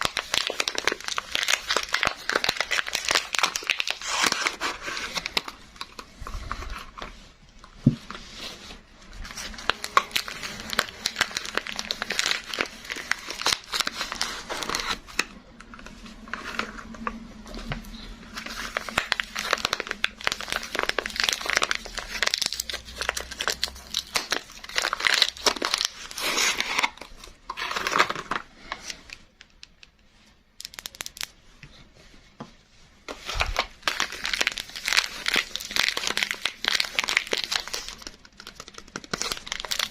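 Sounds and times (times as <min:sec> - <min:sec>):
wrappers crinkling and tearing: 0:00.0 - 0:29.3, 0:33.1 - 0:39.9.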